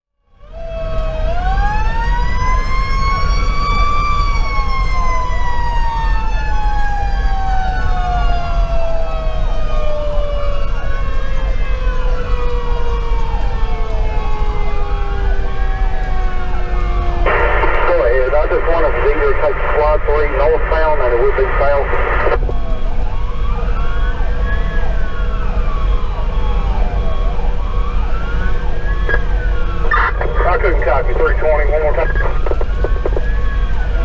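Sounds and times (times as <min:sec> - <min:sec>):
electronic siren wailing: 0:00.3 - 0:34.0.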